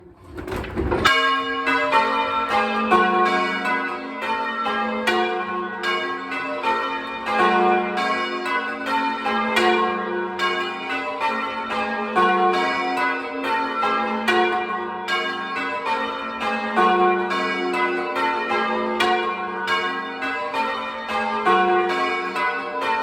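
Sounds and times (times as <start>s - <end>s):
church bells ringing changes: 1.0s - 23.0s.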